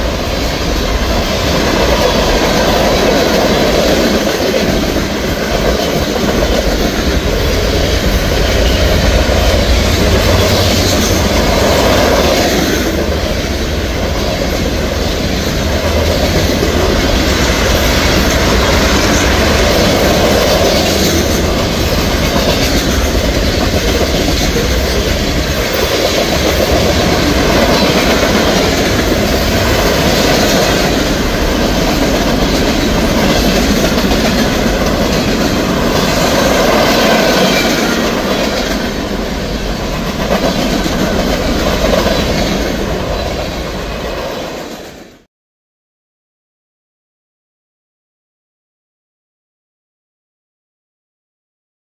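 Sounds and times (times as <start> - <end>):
freight train rolling past: 0.0 - 45.3
steel wheels on rails: 0.0 - 45.3.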